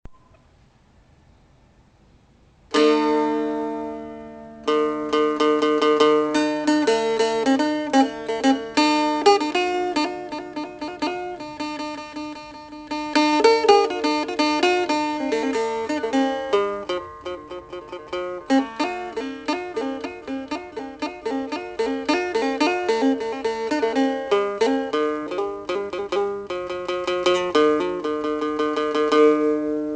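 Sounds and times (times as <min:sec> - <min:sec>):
plucked string instrument music: 0:02.7 - 0:29.9.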